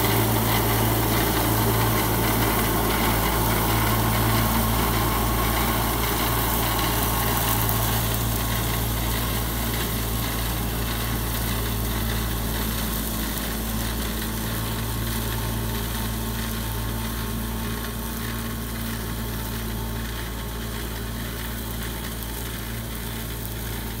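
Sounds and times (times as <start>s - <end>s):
mower machine hum: 0.0s - 24.0s.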